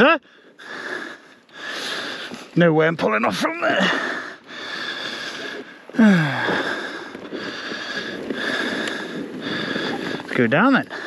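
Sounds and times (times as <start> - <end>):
person breathing hard: 0.2 - 2.6, 3.8 - 11.0.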